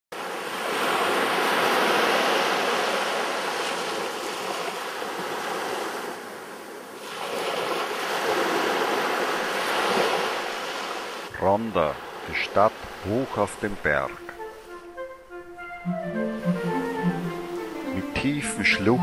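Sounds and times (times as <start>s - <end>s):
sea waves breaking on beach: 0.1s - 15.4s, 16.5s - 19.0s.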